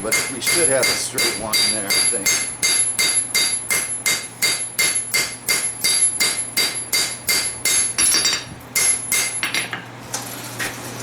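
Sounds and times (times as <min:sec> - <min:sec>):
hammer ringing on anvil: 0:00.0 - 0:09.7
steady low hum: 0:00.0 - 0:09.7.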